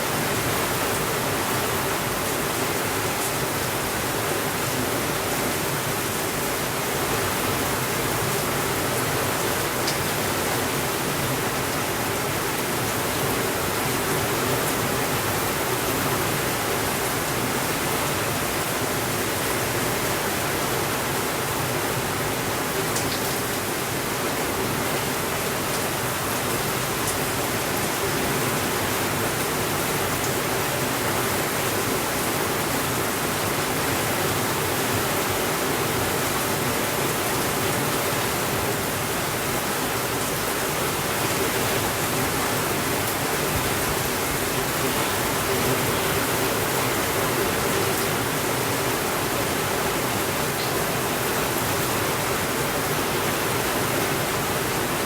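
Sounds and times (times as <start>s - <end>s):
steady rainfall hiss: 0.0s - 55.0s.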